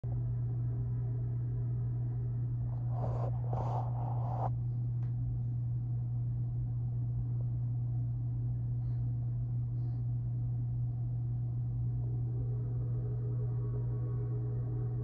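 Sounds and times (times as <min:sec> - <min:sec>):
low rumble through window: 0:00.0 - 0:15.0.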